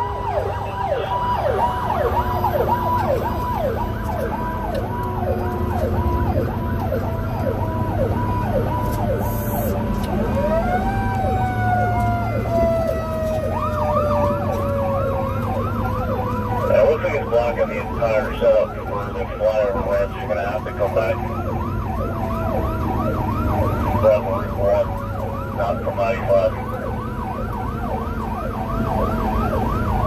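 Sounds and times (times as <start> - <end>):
electronic siren yelping: 0.0 - 30.0
low vehicle rumble: 0.0 - 30.0
rising and falling siren tone: 0.0 - 30.0.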